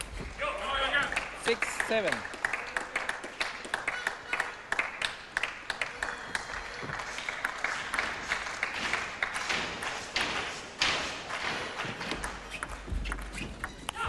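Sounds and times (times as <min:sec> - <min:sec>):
spectators clapping: 0:00.8 - 0:14.0.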